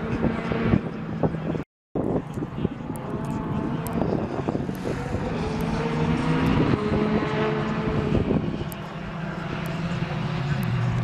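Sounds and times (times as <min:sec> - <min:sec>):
engine drone with held tones: 0:00.0 - 0:11.0
noisy rush: 0:00.0 - 0:11.0.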